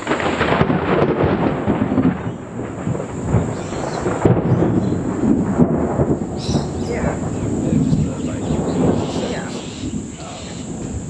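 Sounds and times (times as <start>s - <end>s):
thunder crack and rumble: 0.0s - 11.0s.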